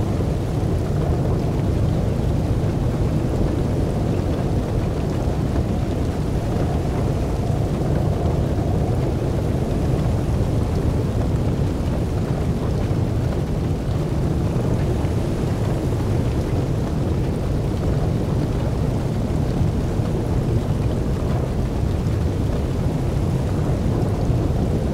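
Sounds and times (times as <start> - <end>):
low rumbling noise: 0.0 - 24.9.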